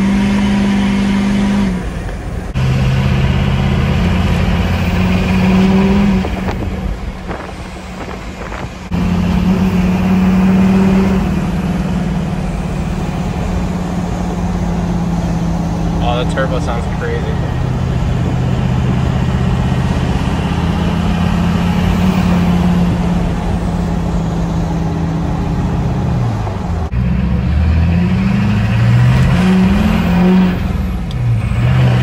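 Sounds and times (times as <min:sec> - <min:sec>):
diesel truck engine accelerating: 0:00.0 - 0:32.0.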